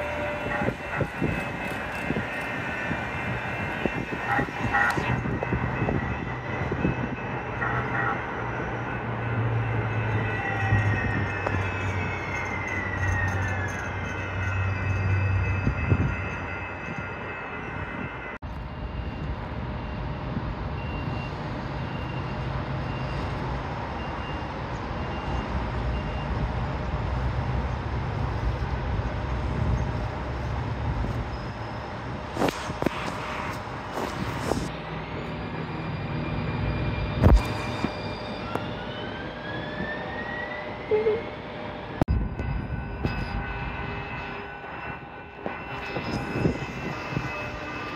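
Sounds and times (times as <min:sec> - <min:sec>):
tram electric hum: 0:00.0 - 0:47.9.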